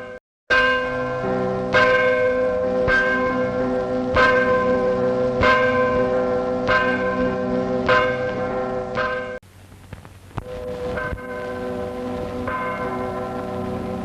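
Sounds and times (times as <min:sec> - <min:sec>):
church bell tolling: 0:00.0 - 0:09.4, 0:10.4 - 0:14.0.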